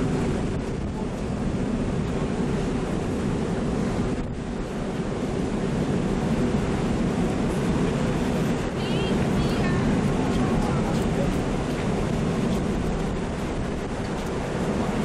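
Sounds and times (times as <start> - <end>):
choppy sea: 0.0 - 15.0
wind buffeting microphone: 0.0 - 15.0.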